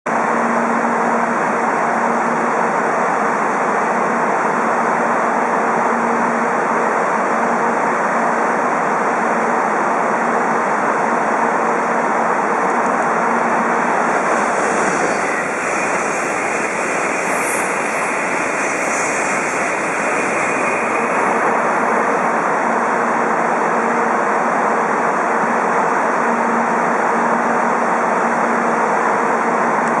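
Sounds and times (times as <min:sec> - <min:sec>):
train passing at high speed: 0:00.1 - 0:30.0.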